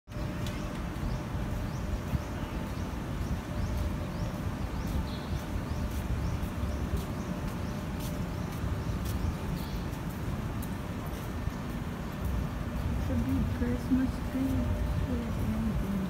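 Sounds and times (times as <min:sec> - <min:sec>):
low city rumble: 0:00.1 - 0:16.0
small birds chirping: 0:00.1 - 0:16.0.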